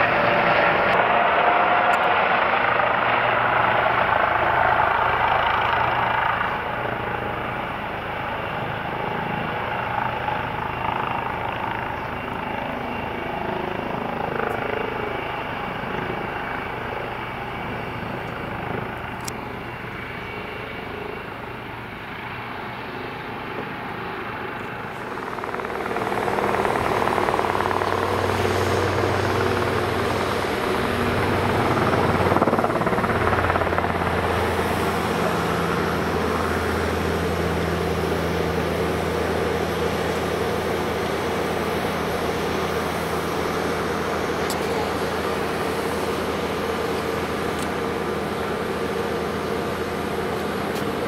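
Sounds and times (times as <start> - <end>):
helicopter rotor and turbine: 0.0 - 51.0
light helicopter hovering: 0.0 - 51.0.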